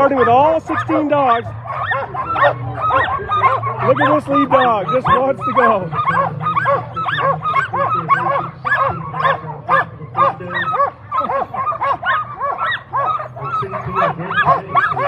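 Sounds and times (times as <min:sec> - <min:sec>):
sled dogs yelping and barking: 0:00.0 - 0:15.0.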